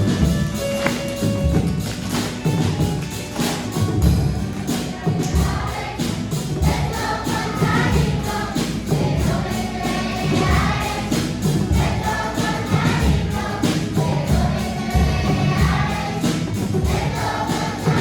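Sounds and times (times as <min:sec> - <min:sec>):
children's choir singing: 0:00.0 - 0:18.0
instrumental accompaniment with beat: 0:00.0 - 0:18.0.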